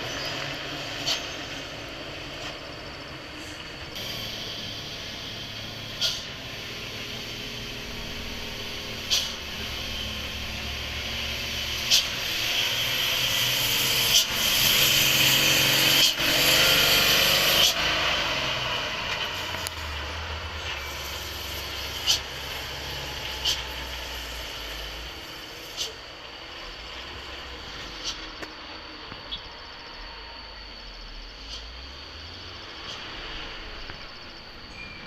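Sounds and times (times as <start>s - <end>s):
brakes hissing and squealing: 0.0s - 35.0s
truck engine running low: 0.0s - 35.0s.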